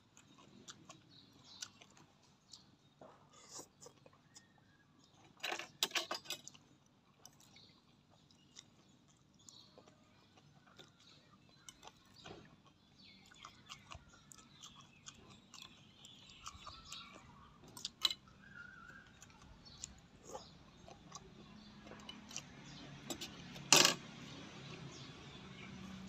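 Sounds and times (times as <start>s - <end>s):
wet chewing and lip-smacking: 0.0s - 5.4s, 6.4s - 23.5s.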